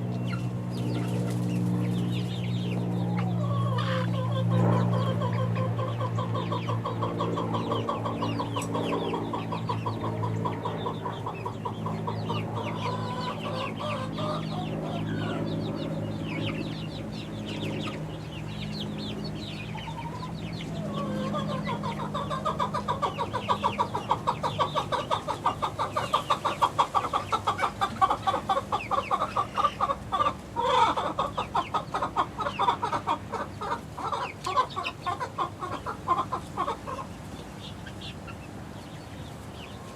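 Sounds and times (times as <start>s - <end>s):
chickens cheeping and clucking: 0.0s - 39.9s.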